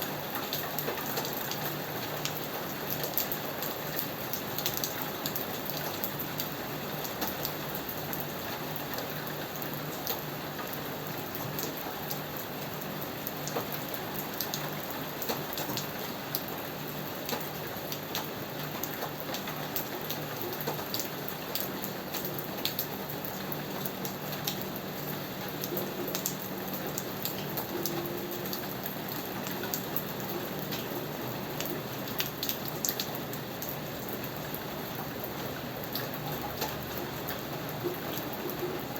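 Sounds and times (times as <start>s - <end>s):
steady rain falling: 0.0s - 38.9s
raindrops ticking close by: 0.1s - 38.9s.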